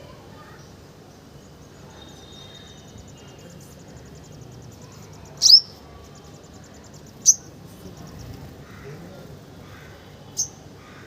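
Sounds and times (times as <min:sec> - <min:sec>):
sunbird chirps: 0:00.3 - 0:10.7.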